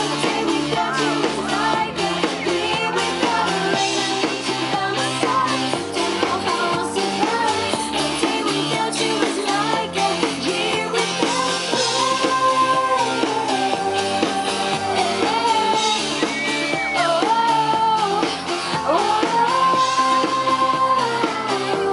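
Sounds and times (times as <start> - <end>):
band backing music: 0.0 - 21.9
woman singing: 0.0 - 21.9.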